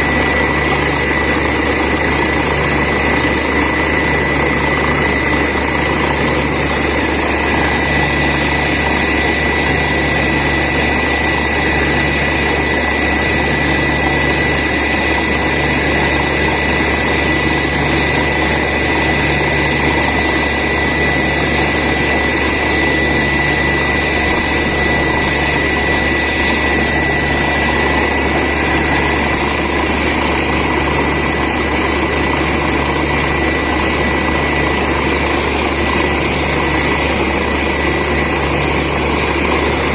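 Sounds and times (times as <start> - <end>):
drilling rig engine: 0.0 - 39.9
high whine: 0.0 - 39.9
low pulsing throb: 0.0 - 39.9.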